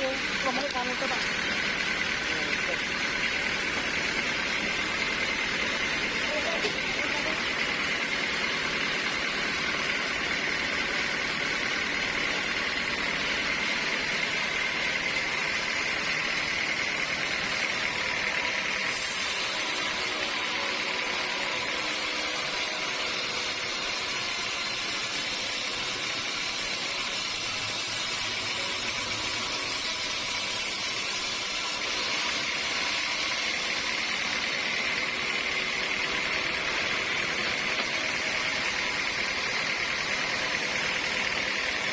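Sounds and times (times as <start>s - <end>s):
sawmill machinery whining: 0.0s - 41.9s.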